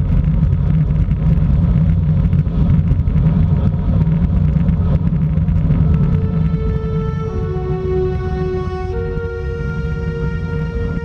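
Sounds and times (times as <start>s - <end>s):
road rumble from bicycle: 0.0s - 11.0s
wind: 0.0s - 11.0s.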